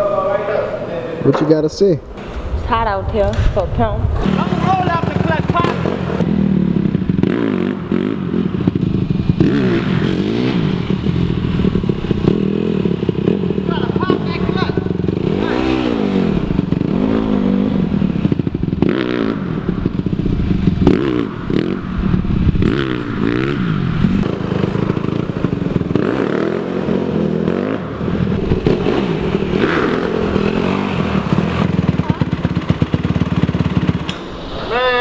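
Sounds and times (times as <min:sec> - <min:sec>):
dirt bike engine revving: 0:02.1 - 0:35.0.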